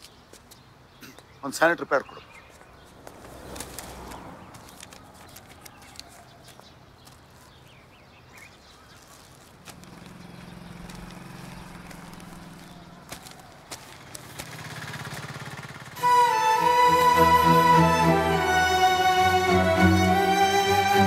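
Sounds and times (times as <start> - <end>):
quiet street ambience: 0.0 - 21.0.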